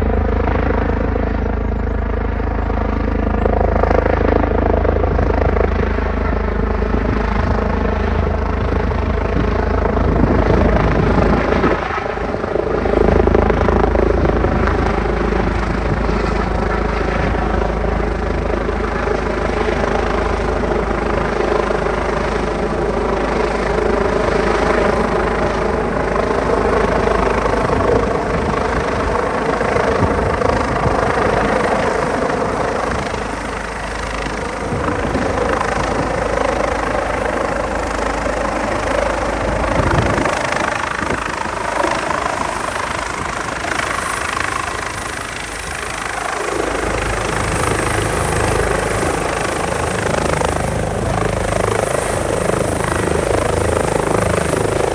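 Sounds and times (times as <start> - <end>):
helicopter rotor and turbines: 0.0 - 54.9.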